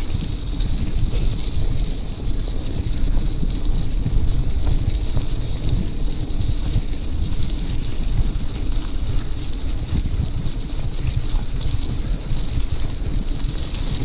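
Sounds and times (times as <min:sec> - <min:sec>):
riding noise hiss: 0:00.0 - 0:14.0
wind buffeting microphone: 0:00.0 - 0:14.0.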